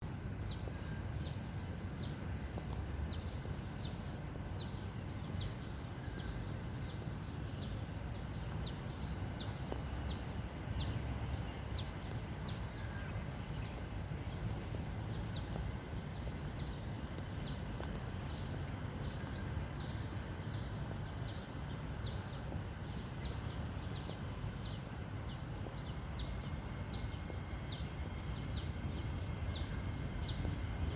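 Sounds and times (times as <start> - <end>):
small birds chirping: 0.4 - 30.9.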